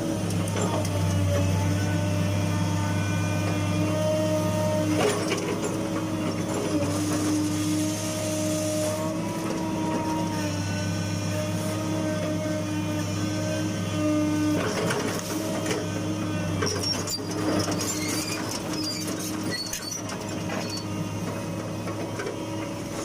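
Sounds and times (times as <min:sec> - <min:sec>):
excavator engine hum: 0:00.0 - 0:23.0.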